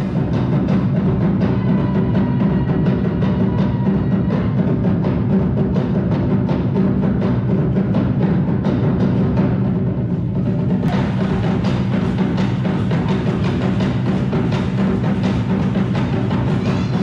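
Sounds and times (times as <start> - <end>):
heavy drums and percussion: 0.0 - 17.0.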